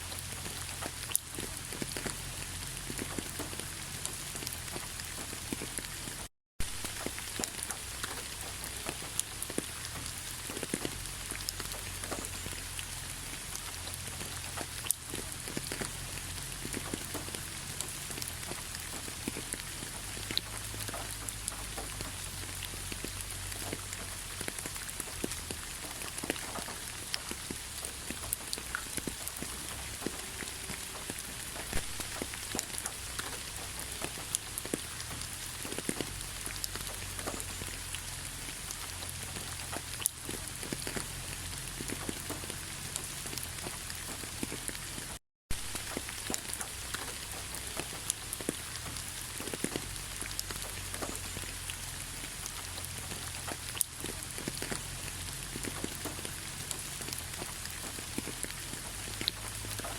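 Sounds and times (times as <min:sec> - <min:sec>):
rain falling: 0:00.0 - 0:59.9
raindrop taps: 0:00.2 - 0:37.9, 0:38.6 - 0:59.9.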